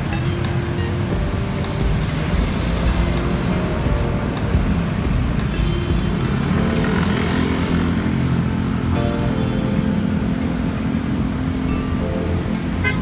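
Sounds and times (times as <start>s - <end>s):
city traffic rumble: 0.0s - 13.0s
music playing: 0.0s - 13.0s.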